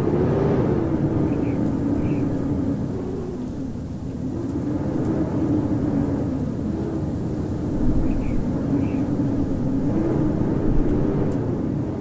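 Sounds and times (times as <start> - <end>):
blizzard wind howling: 0.0 - 12.0.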